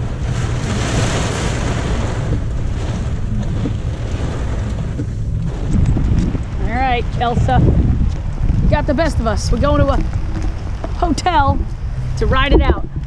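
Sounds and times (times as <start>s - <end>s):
car low rumble: 0.0s - 13.0s
heavy rain on car roof: 0.0s - 13.0s.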